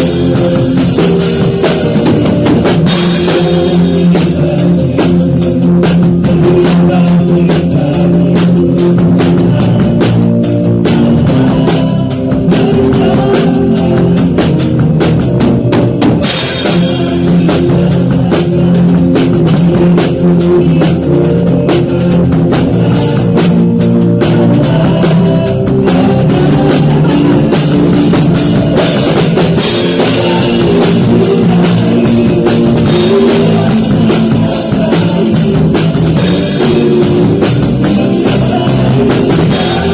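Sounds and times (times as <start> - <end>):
live worship band playing: 0.0 - 39.9.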